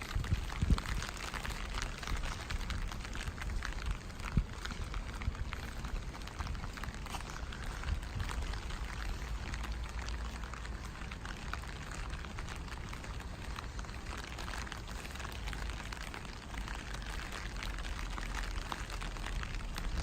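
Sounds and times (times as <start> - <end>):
low rumble: 0.0 - 20.0
rain drops ticking: 0.0 - 20.0.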